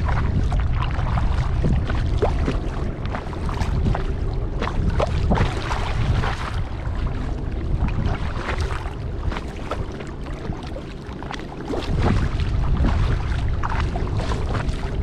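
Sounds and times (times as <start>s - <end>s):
kayak paddle splashing: 0.0s - 15.0s
wind rumble on microphone: 0.0s - 15.0s.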